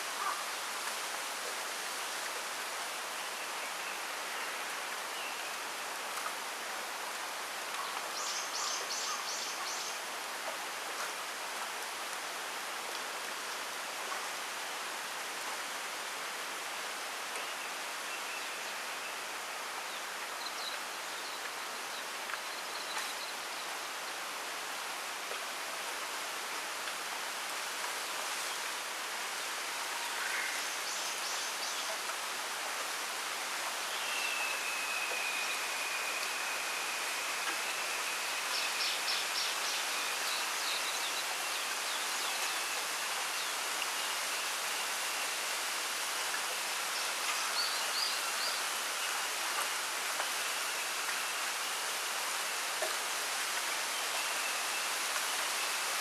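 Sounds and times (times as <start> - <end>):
wind rustling through bamboo: 0.0 - 56.0.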